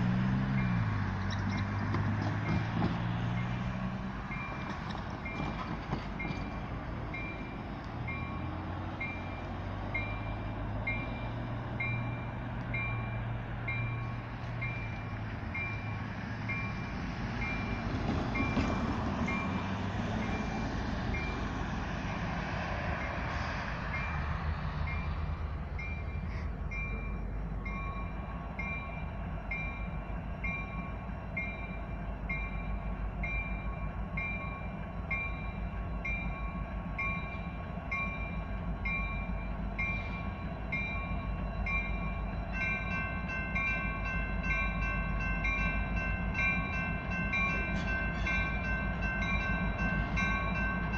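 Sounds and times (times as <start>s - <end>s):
railroad crossing bell ringing: 0.0s - 1.8s, 2.5s - 50.9s.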